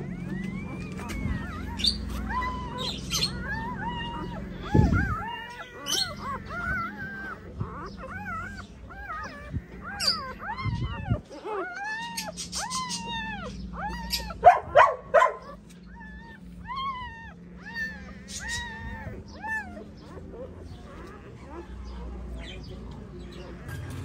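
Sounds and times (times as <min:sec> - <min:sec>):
puppies squealing and whining: 0:00.0 - 0:24.0.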